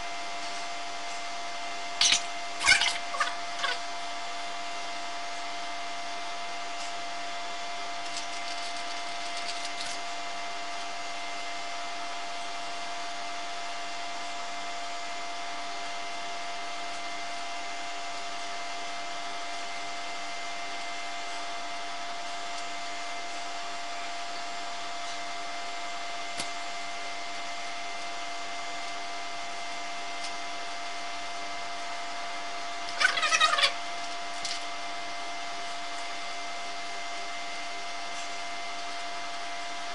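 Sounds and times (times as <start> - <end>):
steady hum with fixed tones: 0.0 - 39.9.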